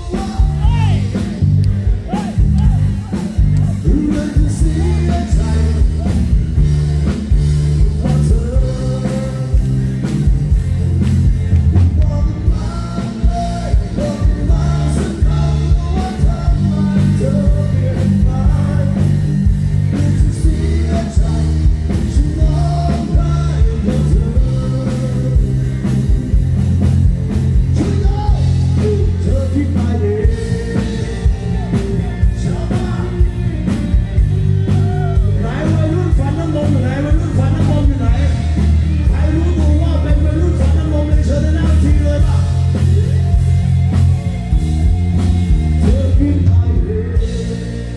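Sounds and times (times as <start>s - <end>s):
man singing: 0.0s - 10.4s, 11.6s - 26.4s, 27.5s - 44.0s, 45.5s - 47.9s
live rock band playing: 0.0s - 47.9s.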